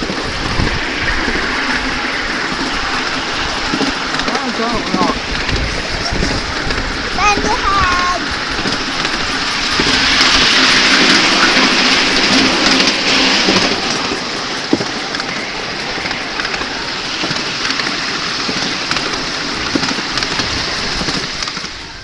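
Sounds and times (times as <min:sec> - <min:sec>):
miniature steam train hissing: 0:00.0 - 0:22.0.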